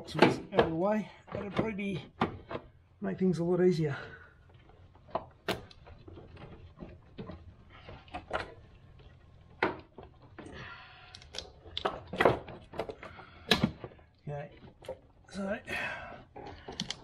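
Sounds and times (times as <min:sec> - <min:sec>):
plastic and metal parts rattling: 0:00.0 - 0:02.9, 0:04.1 - 0:15.6, 0:16.2 - 0:17.0.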